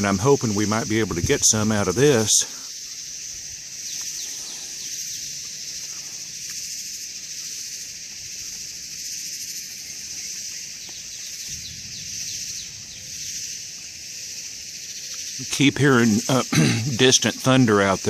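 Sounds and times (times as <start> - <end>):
cicadas singing: 0.0 - 18.0.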